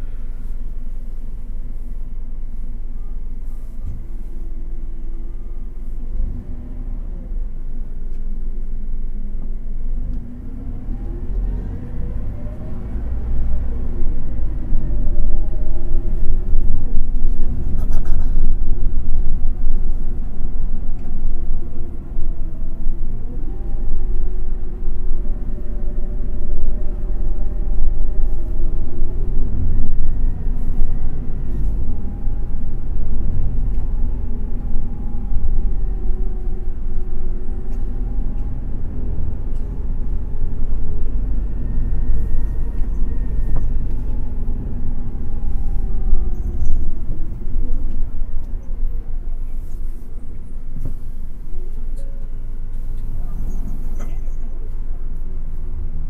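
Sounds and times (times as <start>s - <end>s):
bus engine and road rumble: 0.0s - 56.0s
drivetrain whine: 0.0s - 56.0s.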